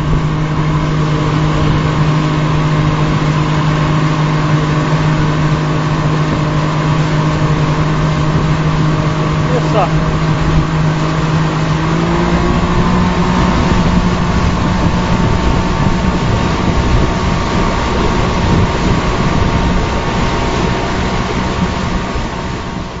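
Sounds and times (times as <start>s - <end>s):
motorboat engine hum: 0.0s - 23.0s
rushing water and wind: 0.0s - 23.0s.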